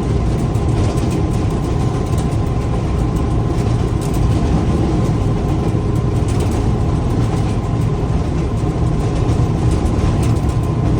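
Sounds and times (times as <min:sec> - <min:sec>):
locomotive rumbling: 0:00.0 - 0:10.9.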